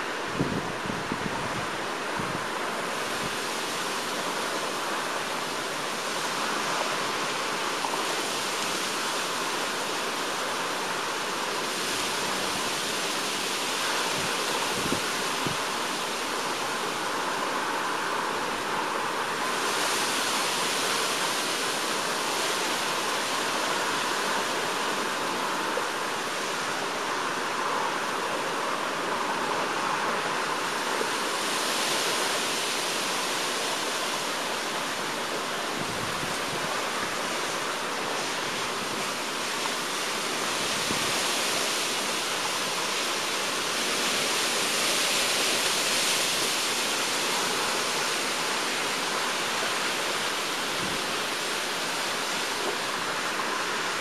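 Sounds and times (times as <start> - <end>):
hurricane wind rushing: 0.0 - 54.0.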